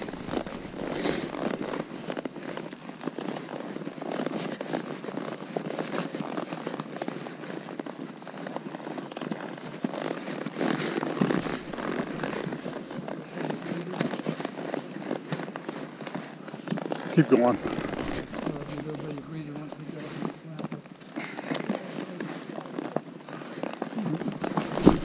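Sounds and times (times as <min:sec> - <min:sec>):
horse hooves on loose rock: 0:00.0 - 0:25.0.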